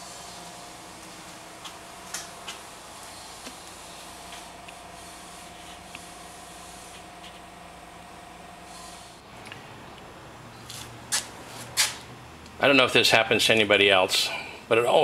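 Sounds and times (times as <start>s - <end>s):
faint hum with thin whine: 0.0s - 15.0s.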